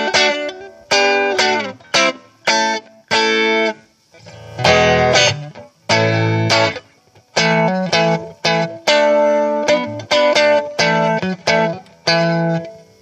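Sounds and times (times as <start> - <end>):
electric guitar chords ringing: 0.0 - 13.0.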